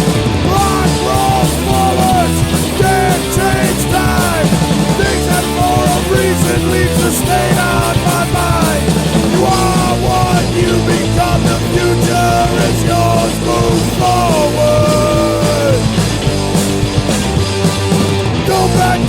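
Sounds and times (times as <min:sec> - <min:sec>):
punk rock band playing: 0:00.0 - 0:19.0.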